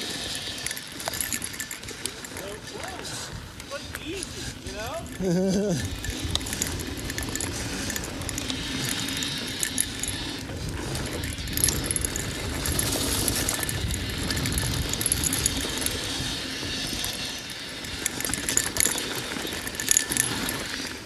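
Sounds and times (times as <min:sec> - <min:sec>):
bike chain rattling: 0:00.0 - 0:21.0
tyres rolling over dirt and rocks: 0:00.0 - 0:21.0.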